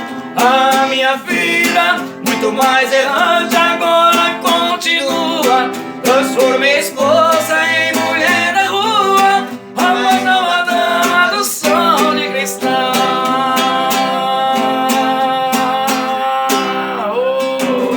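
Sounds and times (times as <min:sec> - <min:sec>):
man singing with vibrato: 0:00.0 - 0:17.9
strummed acoustic guitar: 0:00.0 - 0:17.9.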